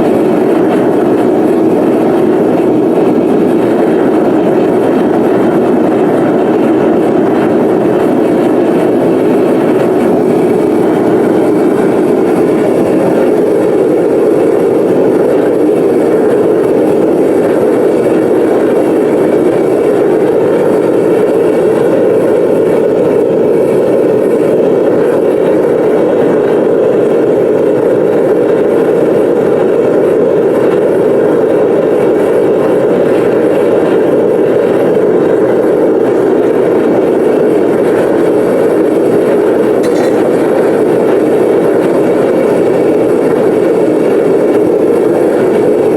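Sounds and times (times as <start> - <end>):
furnace burner roaring: 0.0 - 45.9.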